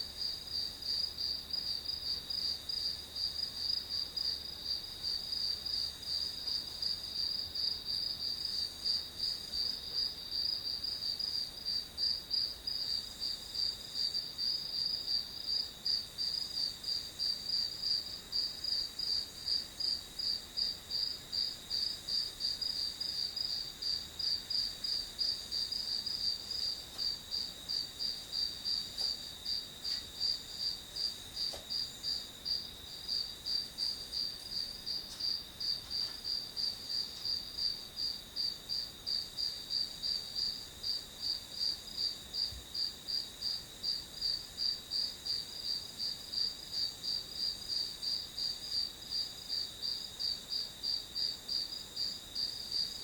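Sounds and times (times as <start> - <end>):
continuous insect trill: 0.0 - 53.0
crickets chirping: 0.0 - 53.0.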